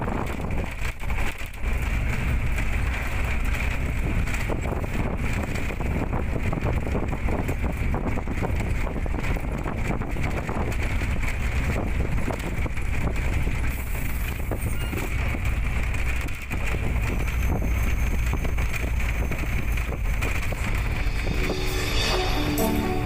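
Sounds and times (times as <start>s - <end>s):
wind buffeting microphone: 0.0s - 22.6s
vehicle engine and road rumble: 0.0s - 23.0s.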